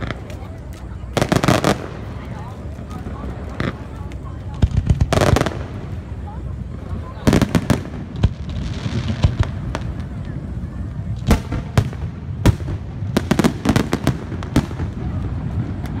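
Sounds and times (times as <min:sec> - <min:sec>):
crackling firework reports: 0:00.0 - 0:16.0.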